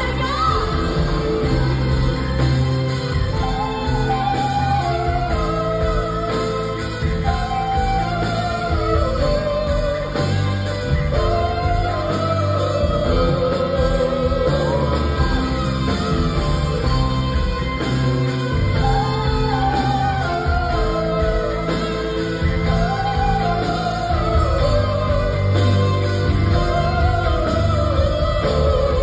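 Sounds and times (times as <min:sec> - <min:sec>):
live band playing rock ballad: 0:00.0 - 0:29.0.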